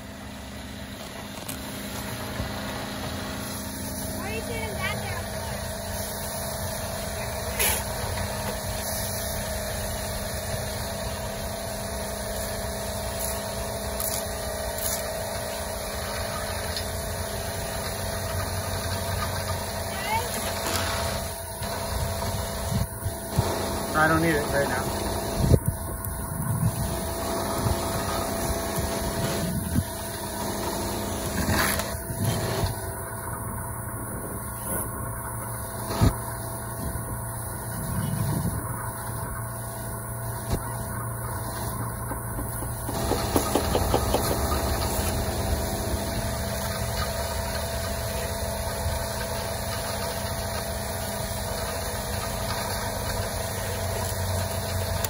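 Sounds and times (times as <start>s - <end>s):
engine hum: 0.0s - 55.0s.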